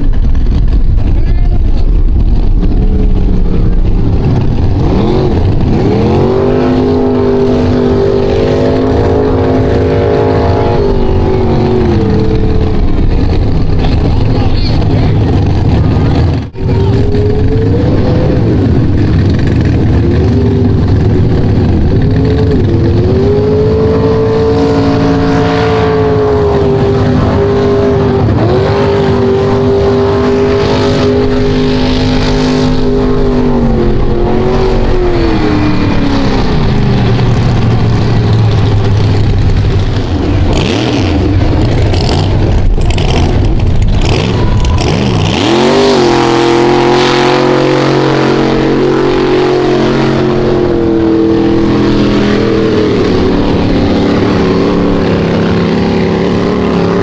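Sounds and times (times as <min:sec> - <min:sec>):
truck engine revving: 0:00.0 - 0:57.0
truck ploughing through mud: 0:03.4 - 0:57.0.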